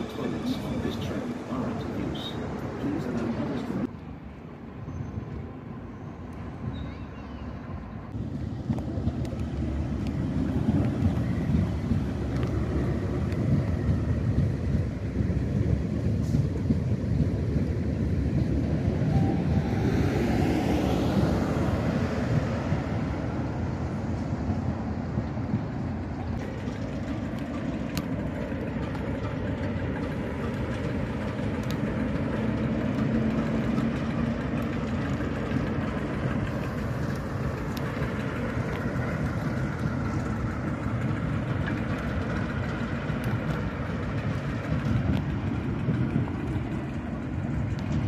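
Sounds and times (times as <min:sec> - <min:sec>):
electric train moving off: 0:00.0 - 0:03.9, 0:04.7 - 0:48.0
diesel engine rumbling: 0:00.0 - 0:48.0.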